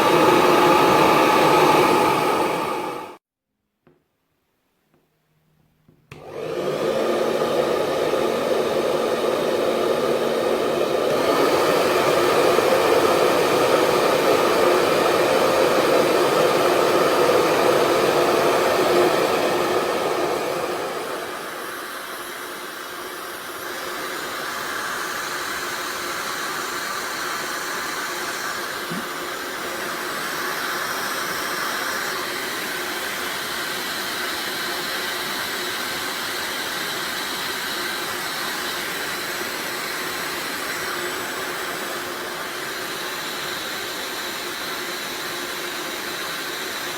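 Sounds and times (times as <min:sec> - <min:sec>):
hair dryer running: 0:00.0 - 0:03.2, 0:06.1 - 0:46.9.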